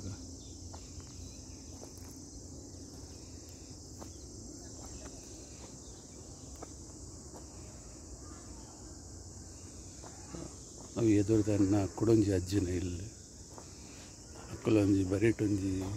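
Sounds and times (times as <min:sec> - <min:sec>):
insects chirring: 0:00.0 - 0:15.9.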